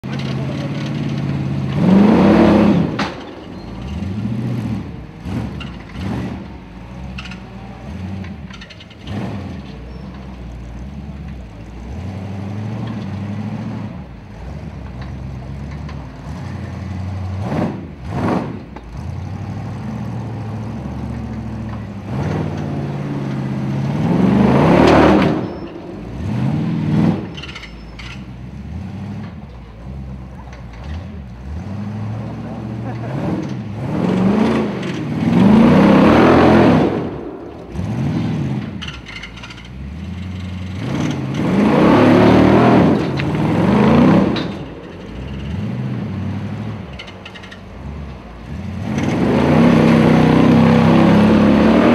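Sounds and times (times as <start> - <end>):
off-road car engine revving: 0.0 - 51.9.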